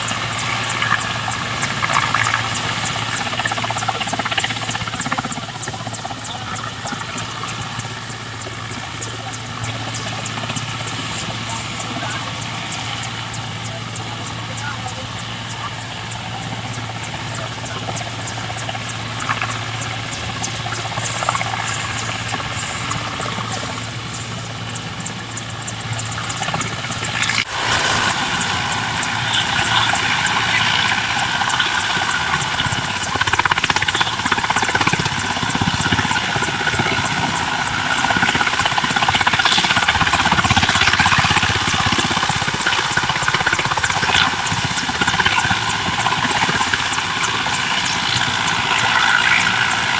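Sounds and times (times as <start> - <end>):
helicopter hovering: 0.0 - 49.9.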